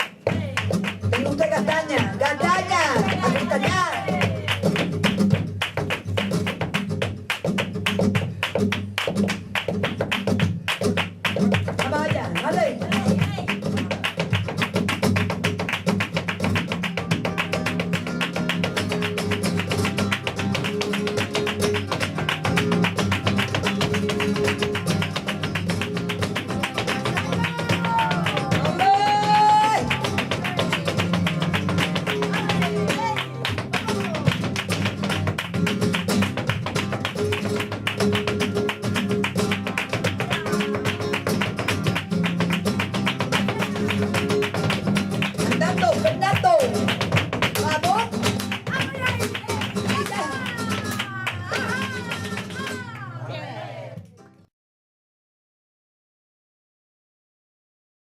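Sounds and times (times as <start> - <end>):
flamenco guitar playing: 0.0 - 53.2, 54.1 - 54.5
footwork on wooden stage: 0.0 - 54.3.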